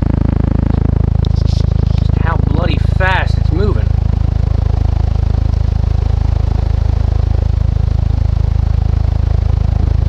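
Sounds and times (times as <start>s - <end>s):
ceiling fan whooshing: 0.0s - 10.0s.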